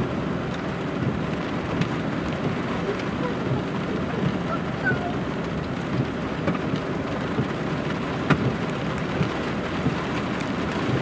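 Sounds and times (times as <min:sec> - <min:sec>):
heavy rain pouring onto water: 0:00.0 - 0:11.0.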